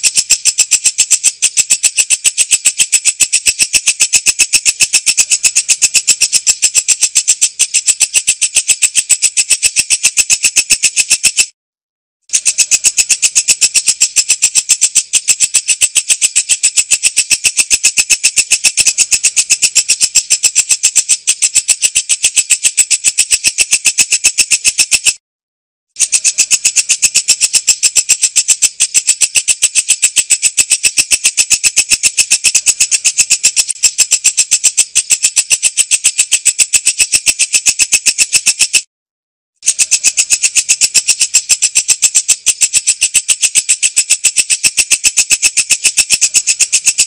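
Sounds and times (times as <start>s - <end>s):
katydid stridulating: 0.0s - 11.4s, 12.3s - 25.1s, 26.0s - 38.8s, 39.6s - 47.0s.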